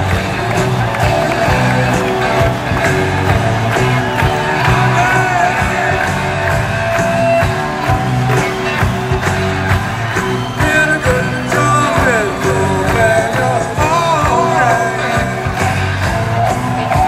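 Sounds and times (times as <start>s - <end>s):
rock music with drums: 0.0s - 17.0s.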